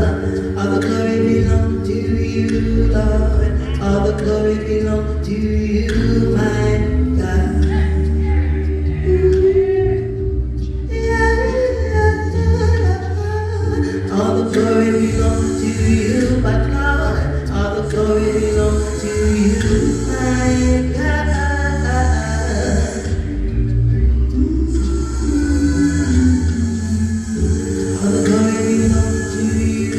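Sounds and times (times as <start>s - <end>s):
gospel singing: 0.0s - 29.9s
musical accompaniment with heavy bass: 0.0s - 29.9s.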